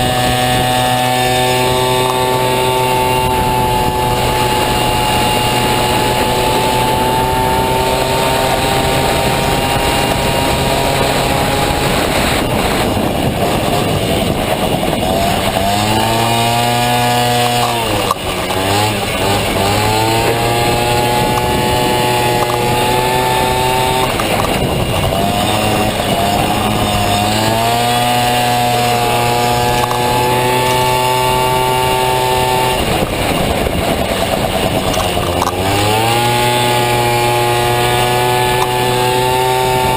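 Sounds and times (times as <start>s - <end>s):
two-stroke engine buzzing at high revs: 0.0s - 39.9s.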